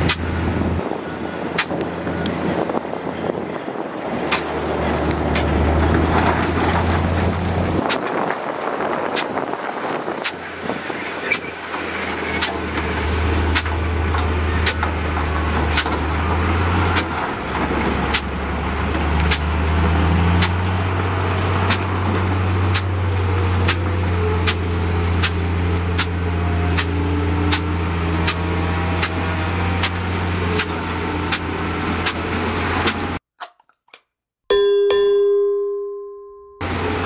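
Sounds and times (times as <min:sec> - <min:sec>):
bulldozer diesel engine under load: 0:00.0 - 0:33.2, 0:36.6 - 0:37.0.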